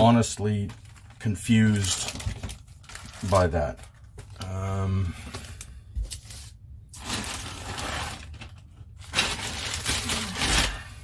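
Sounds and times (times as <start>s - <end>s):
plastic wrapping crinkling: 0.0s - 4.6s, 6.0s - 11.0s.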